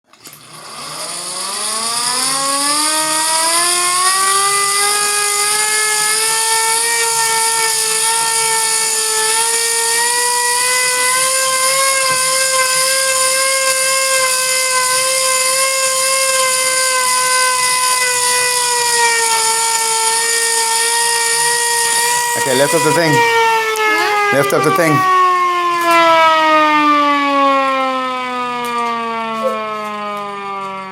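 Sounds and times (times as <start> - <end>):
tornado siren wailing: 1.1 - 30.9.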